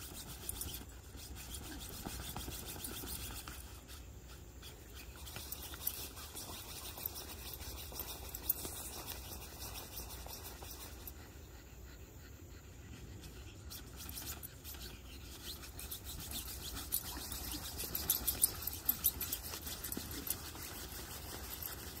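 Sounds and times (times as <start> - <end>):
soft rustling with light scratches: 0.0 - 22.0
puppies scrabbling on fabric: 0.2 - 11.2, 13.7 - 22.0.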